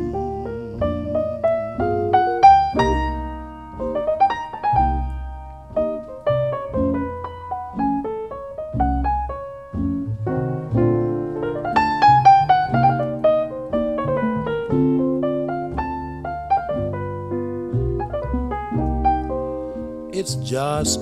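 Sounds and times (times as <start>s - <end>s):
jazz piano ballad: 0.0s - 21.0s.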